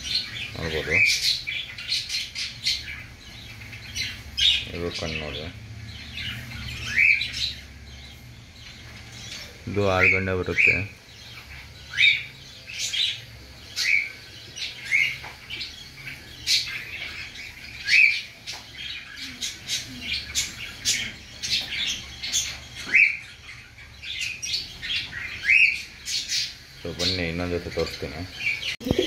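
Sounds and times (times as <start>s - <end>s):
young pigeons peeping: 0.0s - 29.0s.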